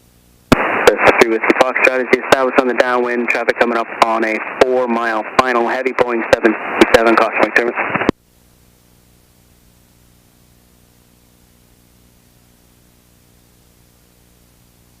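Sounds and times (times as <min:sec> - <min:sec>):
radio hum and hiss: 0:00.0 - 0:15.0.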